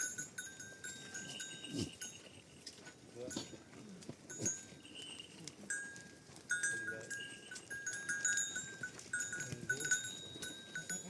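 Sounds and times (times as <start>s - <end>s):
livestock bells clinking: 0.0s - 11.0s.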